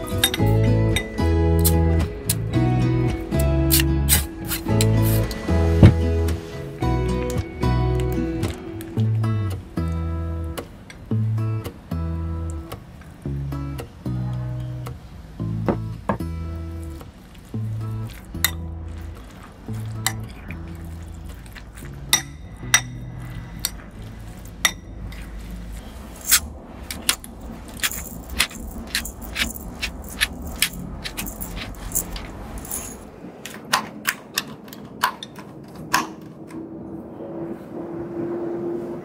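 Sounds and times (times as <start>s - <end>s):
soft background music: 0.0s - 33.0s.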